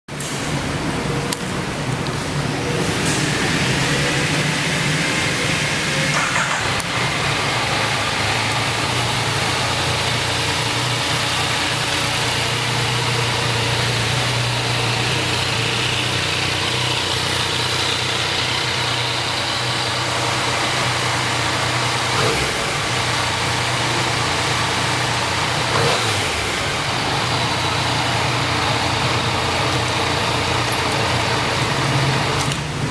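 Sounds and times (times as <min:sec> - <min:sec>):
motorcycle engine idling: 0:03.5 - 0:32.8.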